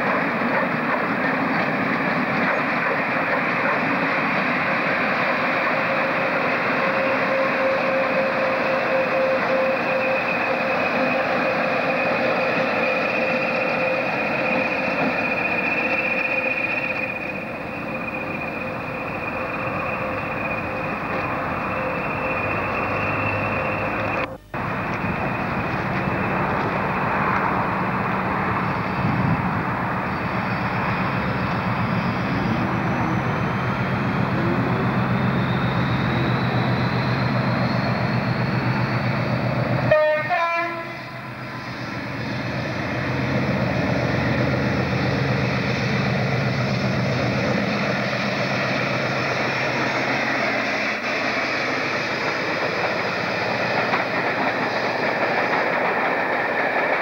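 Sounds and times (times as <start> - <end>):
diesel train engine drone: 0.0 - 57.0
rail rumble: 0.0 - 57.0.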